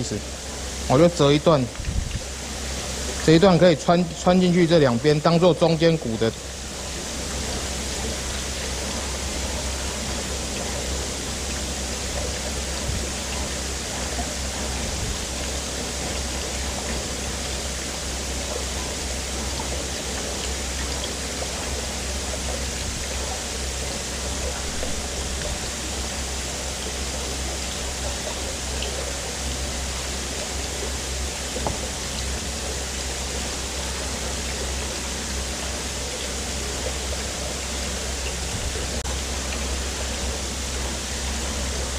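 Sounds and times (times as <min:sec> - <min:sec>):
low hum: 0:00.0 - 0:41.9.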